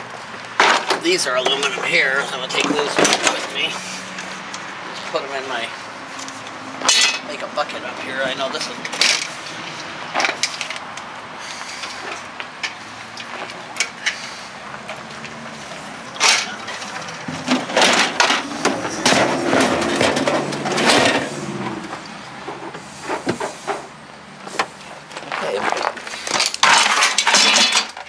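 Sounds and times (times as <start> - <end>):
metal scraping and clattering: 0.6 - 10.9, 11.6 - 28.0.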